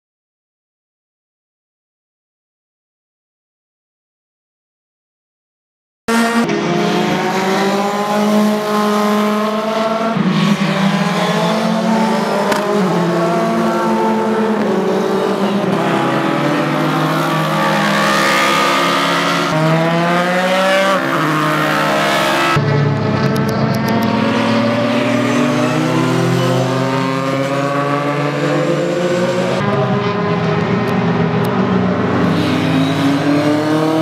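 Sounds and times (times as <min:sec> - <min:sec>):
race car engines at full speed: 0:06.1 - 0:34.0.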